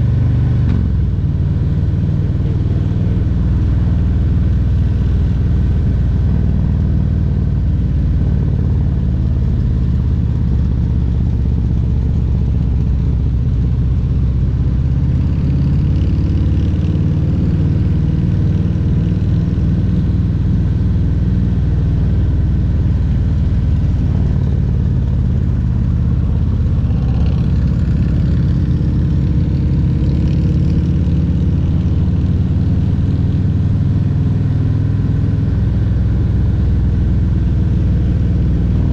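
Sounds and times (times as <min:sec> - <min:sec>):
motorcycle engine at road speed: 0:00.0 - 0:38.9.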